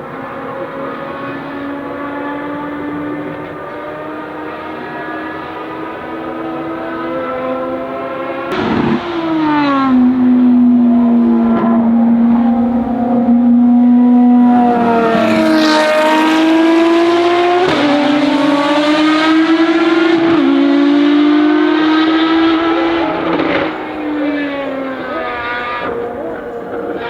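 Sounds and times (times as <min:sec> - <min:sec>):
race car engine accelerating: 0:00.0 - 0:27.0.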